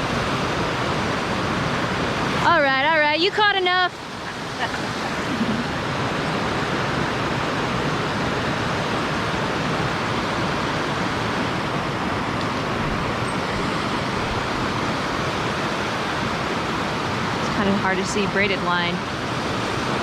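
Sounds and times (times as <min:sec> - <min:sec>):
water rushing over waterfall: 0:00.0 - 0:20.0.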